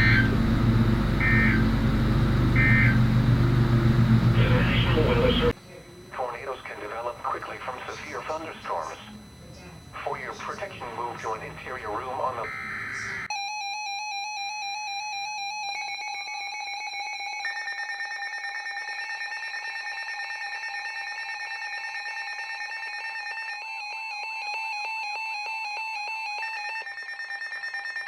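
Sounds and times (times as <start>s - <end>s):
synthetic alarm tone: 0.0s - 28.0s.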